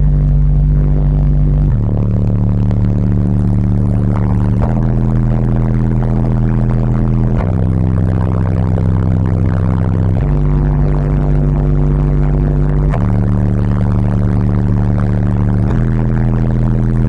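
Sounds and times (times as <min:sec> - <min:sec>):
loud bass-heavy music from subwoofers: 0:00.0 - 0:17.0.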